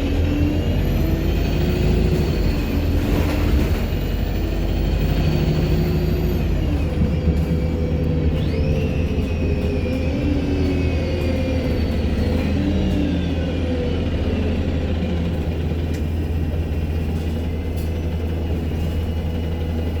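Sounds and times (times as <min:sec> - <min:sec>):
bus diesel engine rumble: 0:00.0 - 0:20.0
turbocharger whine: 0:00.0 - 0:20.0.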